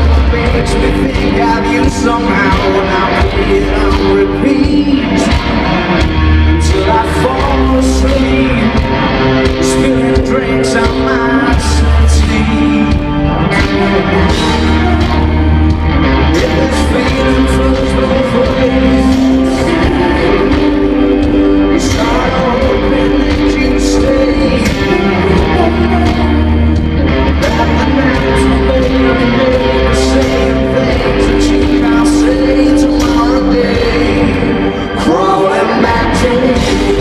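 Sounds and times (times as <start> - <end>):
deep bass line: 0.0 - 37.0
live rock band: 0.0 - 37.0
sung lead vocal: 0.0 - 37.0.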